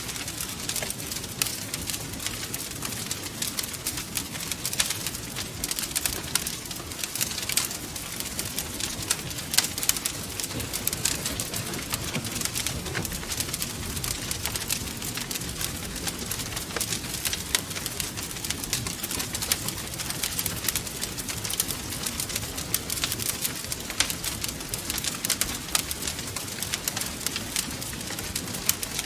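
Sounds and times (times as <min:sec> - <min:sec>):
low rumble of flames: 0:00.0 - 0:29.0
wood fire crackling: 0:00.0 - 0:29.0.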